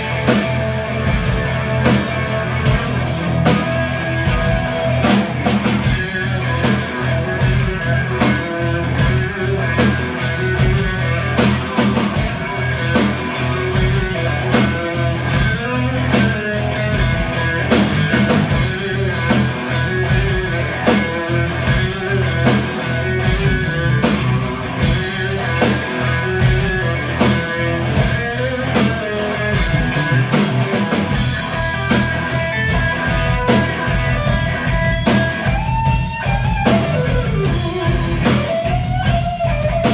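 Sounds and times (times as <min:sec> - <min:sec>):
drum kit beat: 0:00.0 - 0:39.9
electric bass: 0:00.0 - 0:39.9
electric guitar: 0:00.0 - 0:39.9.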